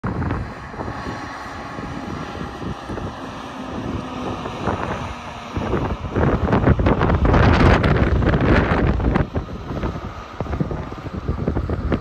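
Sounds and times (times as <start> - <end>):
distant truck diesel engine: 0.0 - 12.0
wind buffeting microphone: 0.0 - 12.0.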